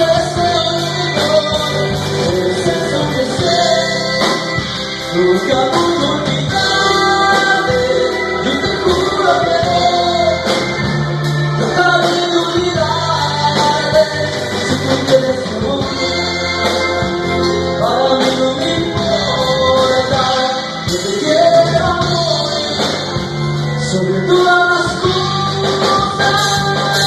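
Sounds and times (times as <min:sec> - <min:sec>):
band playing a song: 0:00.0 - 0:27.0
person singing: 0:00.0 - 0:27.0.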